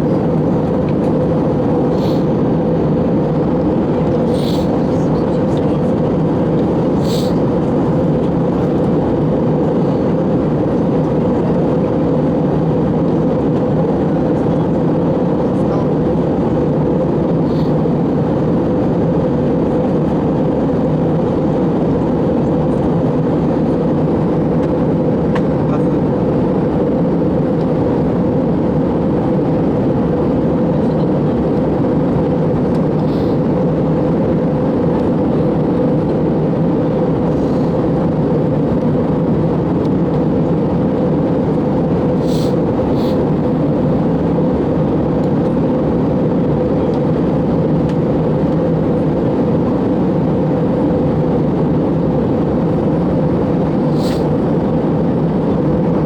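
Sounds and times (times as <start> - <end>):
airplane cabin airflow and engines: 0.0 - 56.0
steady cabin hum: 0.0 - 56.0.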